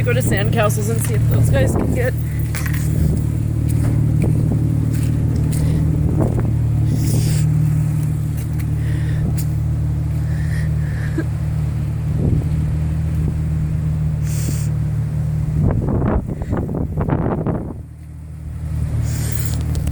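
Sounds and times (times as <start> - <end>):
vehicle engine humming: 0.0 - 19.9.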